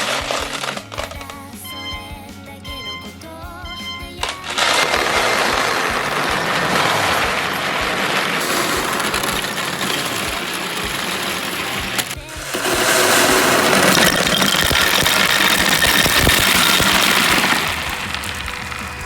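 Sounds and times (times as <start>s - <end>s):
marbles rattling down a track: 0.0s - 1.5s, 4.2s - 19.0s
light background music: 0.0s - 19.0s.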